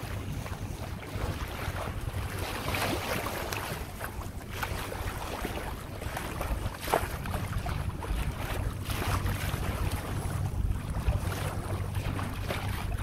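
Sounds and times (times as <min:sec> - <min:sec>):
water splashing along a hull: 0:00.0 - 0:13.0
wind buffeting microphone: 0:00.0 - 0:13.0.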